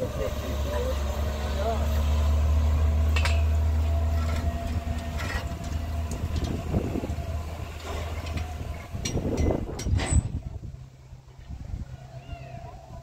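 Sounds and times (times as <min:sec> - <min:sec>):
engine running with low hum: 0:00.0 - 0:13.0.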